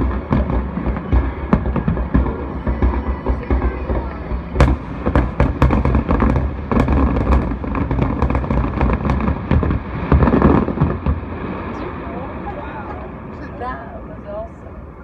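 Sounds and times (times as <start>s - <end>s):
firework bangs and crackles: 0.0s - 14.9s
low rumble: 0.0s - 15.0s.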